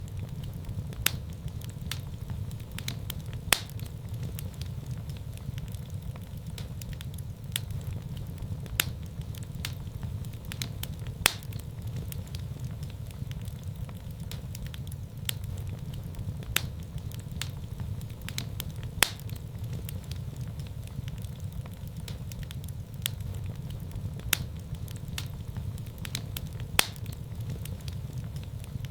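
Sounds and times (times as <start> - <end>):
fire crackles and pops: 0.0 - 28.9
low rumble of flames: 0.0 - 28.9.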